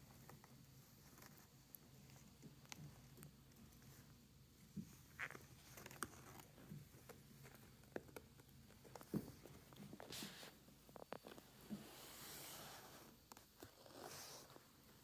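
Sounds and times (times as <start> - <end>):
kitten rustling and scratching: 0.0 - 15.0.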